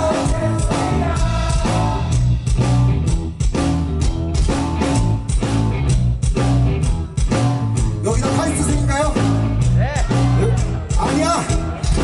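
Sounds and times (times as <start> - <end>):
bass guitar: 0.0 - 12.0
electric guitar: 0.0 - 12.0
steady drum beat: 0.0 - 12.0.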